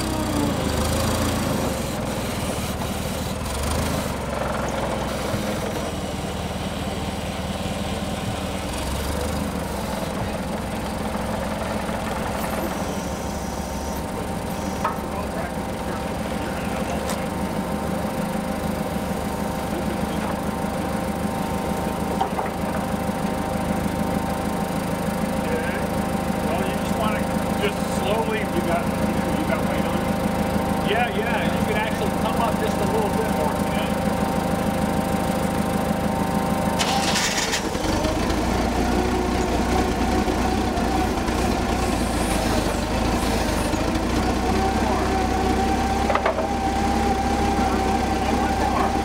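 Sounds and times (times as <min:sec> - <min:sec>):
forklift engines idling: 0:00.0 - 0:49.0.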